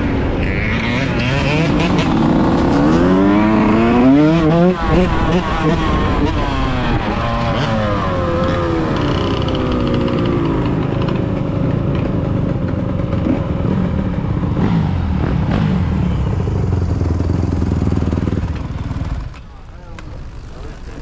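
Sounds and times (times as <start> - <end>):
two-stroke dirt bike engine: 0.0 - 21.0.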